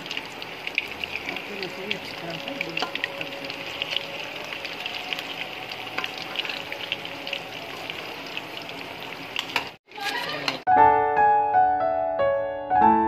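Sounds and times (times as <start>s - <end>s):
fish sizzling in hot oil: 0.0s - 10.6s.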